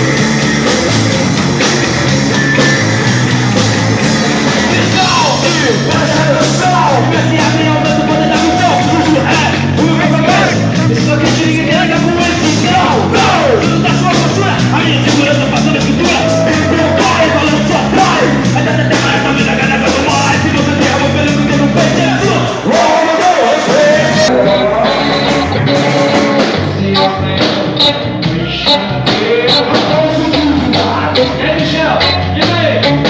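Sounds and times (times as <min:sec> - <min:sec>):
heavy rock band playing: 0:00.0 - 0:33.0
person singing: 0:04.2 - 0:33.0.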